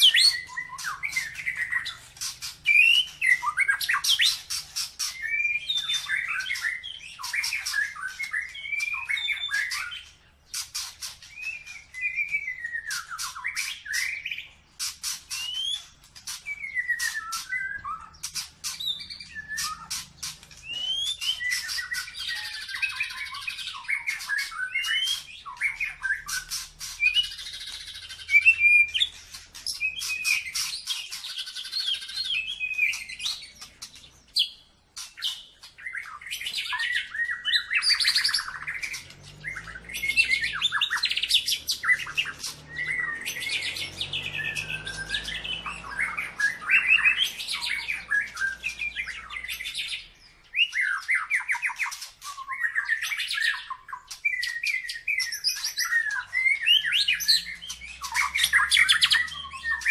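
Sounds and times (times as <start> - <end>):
songbird whistling and trilling: 0.0 - 59.9.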